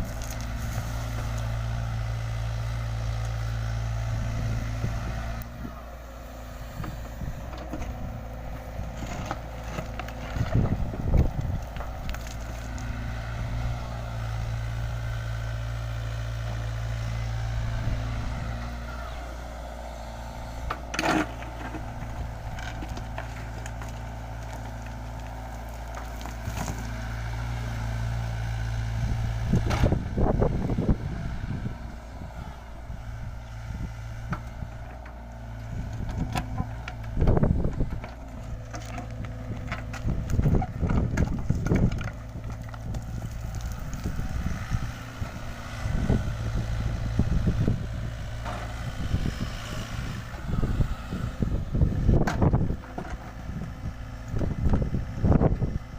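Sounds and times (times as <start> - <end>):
diesel excavator engine running: 0.0 - 55.9.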